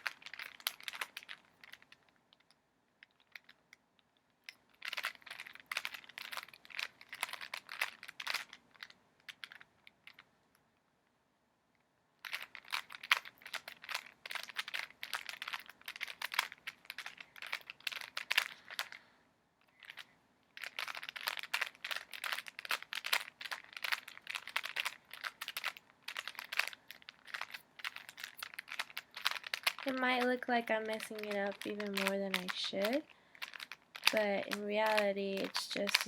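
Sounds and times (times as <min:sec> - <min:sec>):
puzzle cube plastic clicking: 0:00.0 - 0:10.6, 0:12.2 - 0:19.0, 0:19.6 - 0:36.0.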